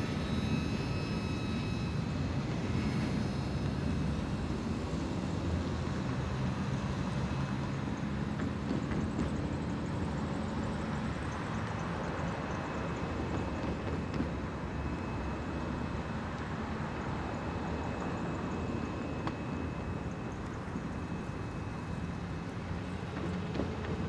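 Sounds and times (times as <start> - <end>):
train wheels rumbling on rail: 2.4 - 24.0.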